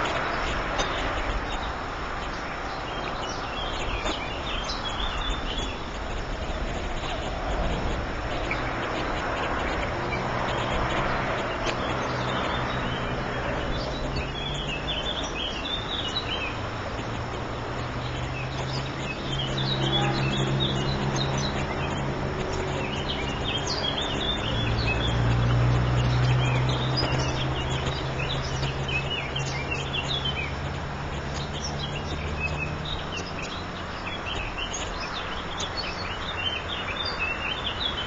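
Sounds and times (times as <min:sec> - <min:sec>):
high bird chirps: 0:00.0 - 0:38.0
rushing background noise: 0:00.0 - 0:38.0.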